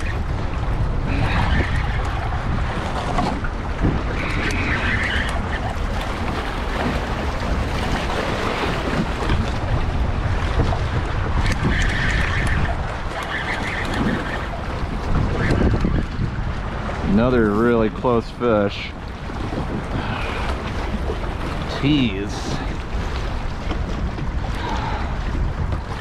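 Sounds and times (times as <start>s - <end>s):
choppy water washing: 0.0s - 26.0s
wind buffeting microphone: 0.0s - 26.0s.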